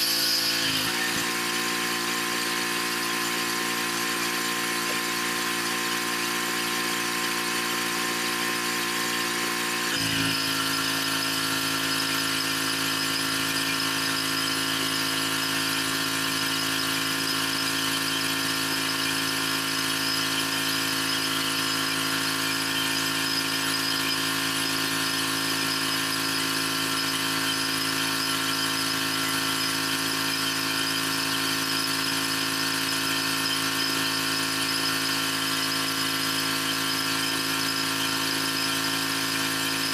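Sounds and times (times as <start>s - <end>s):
pressure washer machine whine: 0.0s - 39.9s.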